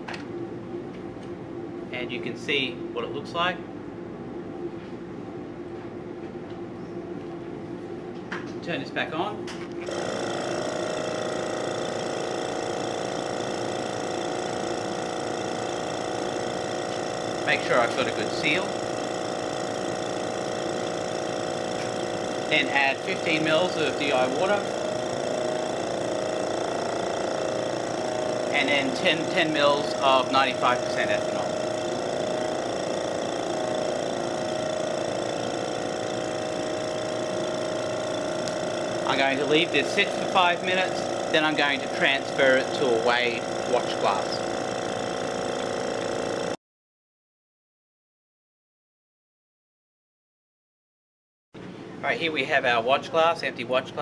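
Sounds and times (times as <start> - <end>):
vacuum pump humming: 0.0 - 46.6.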